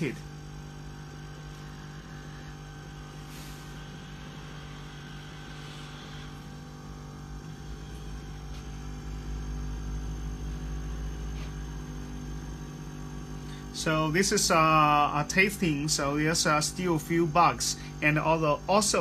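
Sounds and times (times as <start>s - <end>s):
printer mechanical hum: 0.0s - 19.0s.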